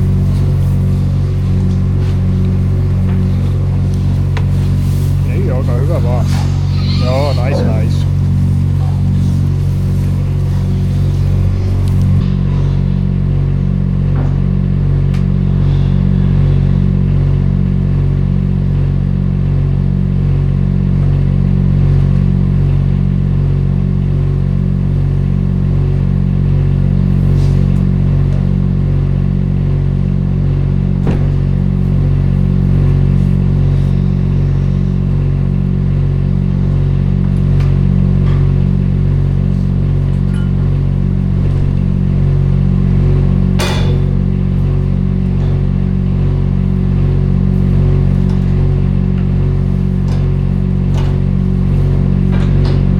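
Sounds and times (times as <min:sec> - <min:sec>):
loader engine running under load: 0:00.0 - 0:52.9.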